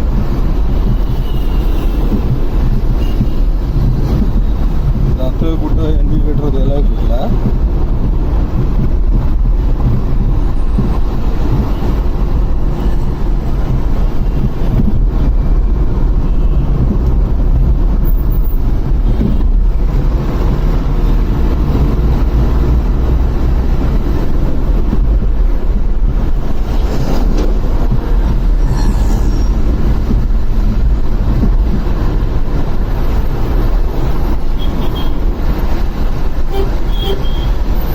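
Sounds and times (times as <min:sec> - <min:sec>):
wind on microphone: 0:00.0 - 0:06.3, 0:06.9 - 0:37.9
motorcycle road noise: 0:00.0 - 0:37.9.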